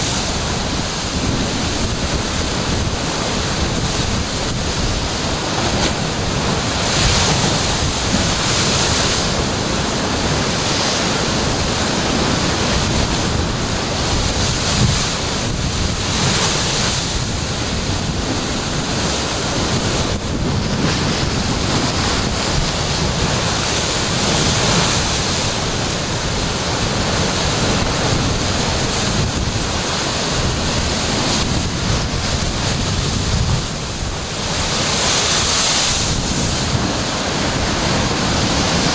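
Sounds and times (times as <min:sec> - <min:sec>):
ocean surf crashing on rocks: 0:00.0 - 0:38.9
wind buffeting microphone: 0:00.0 - 0:38.9.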